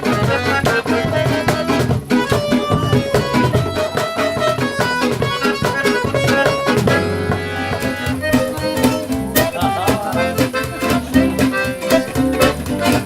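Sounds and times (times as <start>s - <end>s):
live band playing traditional music: 0.0s - 13.0s
steady percussion beat: 0.0s - 13.0s.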